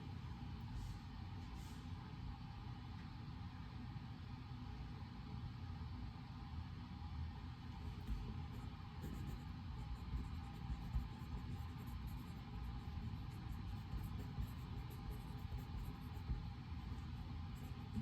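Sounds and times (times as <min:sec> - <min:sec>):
ventilation rumble: 0:00.0 - 0:18.0.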